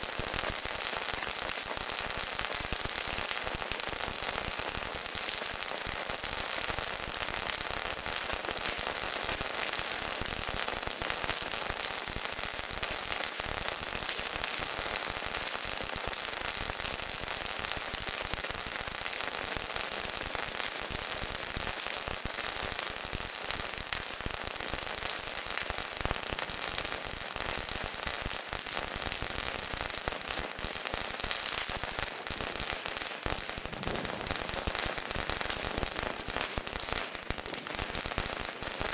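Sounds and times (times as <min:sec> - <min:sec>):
crackling fireworks fountains: 0:00.0 - 0:38.9.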